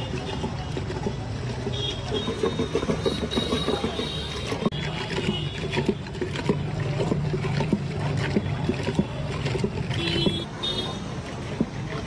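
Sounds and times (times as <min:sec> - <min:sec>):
yogurt sloshing in clay pot: 0:00.0 - 0:12.0.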